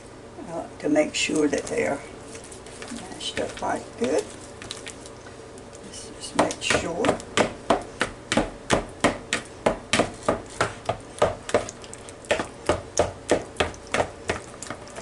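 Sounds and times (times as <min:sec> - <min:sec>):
bananas being mashed squishing: 0:01.2 - 0:15.0.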